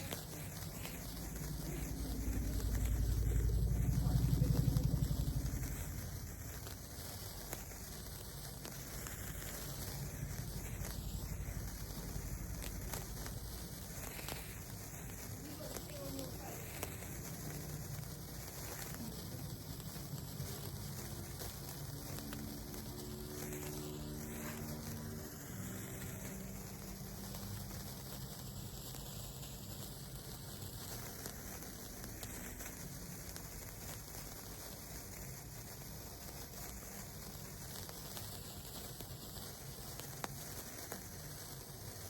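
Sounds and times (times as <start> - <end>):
firework fizzing and crackling: 0.0 - 42.0.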